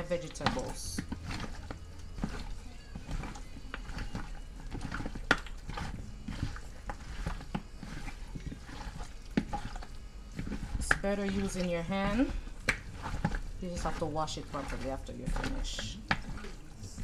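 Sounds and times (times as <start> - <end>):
hands mixing wet meat: 0.0 - 17.0
meat pieces knocking in bowl: 0.0 - 17.0.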